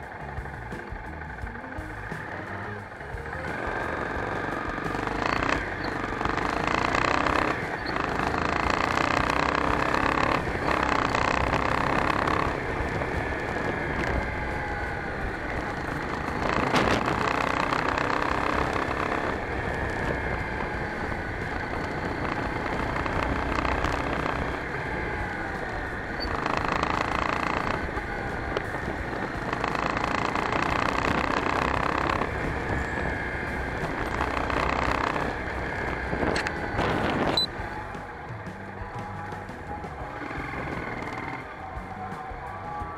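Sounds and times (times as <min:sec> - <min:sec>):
motorcycle engine: 0:00.0 - 0:42.9
wind and road noise: 0:00.0 - 0:42.9.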